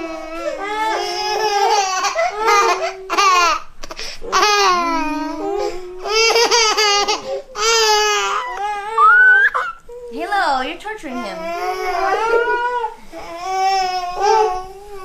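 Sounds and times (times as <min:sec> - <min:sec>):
baby crying: 0:00.0 - 0:10.2, 0:11.1 - 0:15.0.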